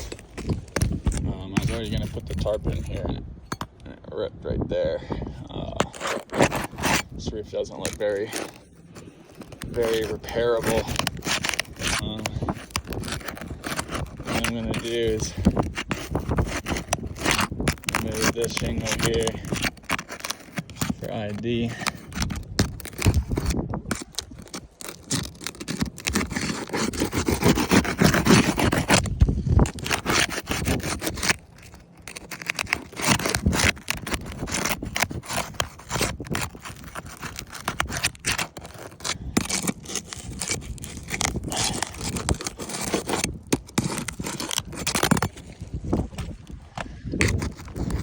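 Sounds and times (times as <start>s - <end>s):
roof shingle scraping and crackling: 0.0s - 3.9s, 5.0s - 48.0s.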